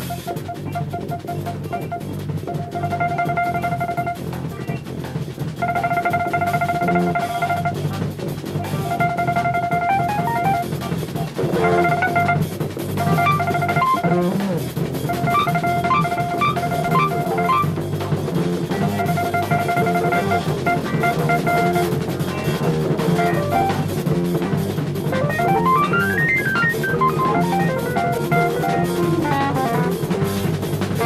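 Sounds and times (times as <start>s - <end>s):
lead line high notes: 0.0s - 4.3s, 5.6s - 8.0s, 8.6s - 10.8s, 11.6s - 14.4s, 15.1s - 17.8s, 18.8s - 24.2s, 25.0s - 30.2s
jazz fusion band playing: 0.0s - 31.0s.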